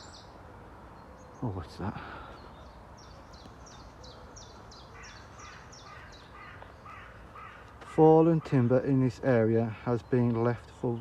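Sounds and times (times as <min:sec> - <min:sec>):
bird lower chirped call: 0:00.0 - 0:08.8.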